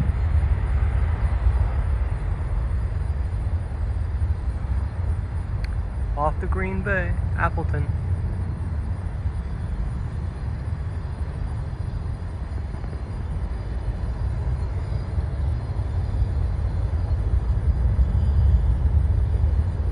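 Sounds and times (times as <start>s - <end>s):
jet airliner rumble on takeoff: 0.0s - 19.9s.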